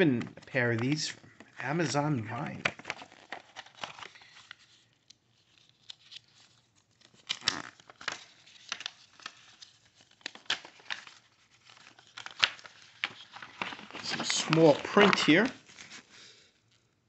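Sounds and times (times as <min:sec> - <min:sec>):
paper rustling and crinkling: 0:00.0 - 0:16.8.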